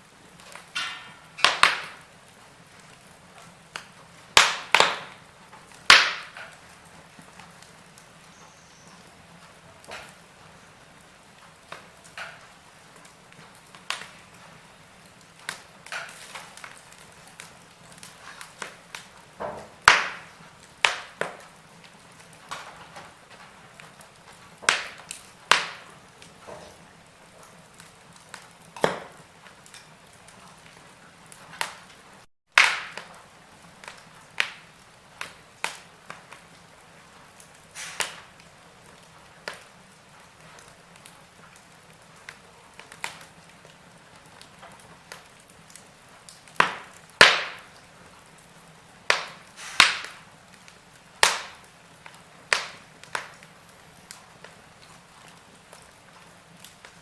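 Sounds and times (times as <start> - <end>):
soft hiss of flame: 0.0 - 32.3, 33.0 - 57.0
wood fire crackling and popping: 0.0 - 57.0.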